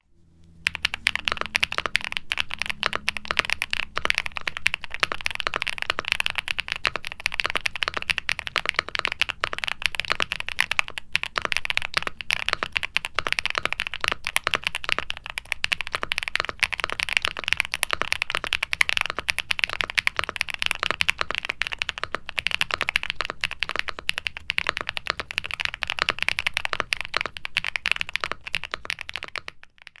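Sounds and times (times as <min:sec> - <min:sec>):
fast typing on mechanical keyboard: 0:00.6 - 0:30.0.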